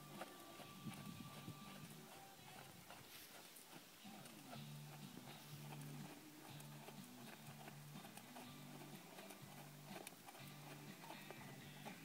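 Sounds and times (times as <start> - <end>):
quiet music with low held notes: 0.0 - 12.0.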